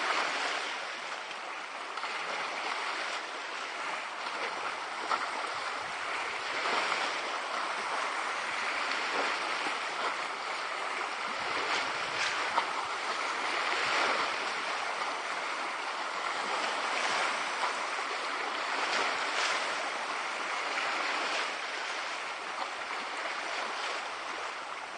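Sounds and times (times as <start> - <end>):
lake waves lapping at shore: 0.0 - 24.9.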